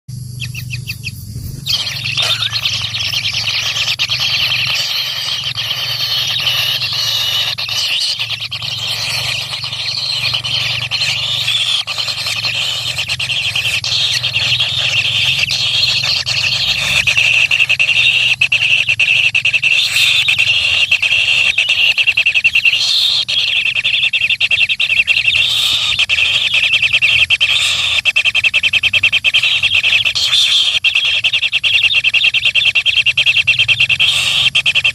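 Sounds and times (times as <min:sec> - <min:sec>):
steady low hum: 0:00.1 - 0:31.2
baby birds begging calls: 0:00.3 - 0:34.9.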